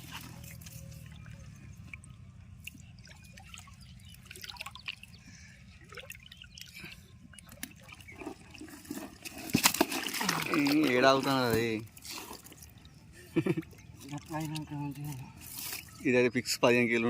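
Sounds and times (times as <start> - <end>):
small splashes and clicks: 0.0 - 5.2, 5.8 - 16.0
water dripping and trickling: 0.0 - 16.6
low steady hum: 0.0 - 17.0.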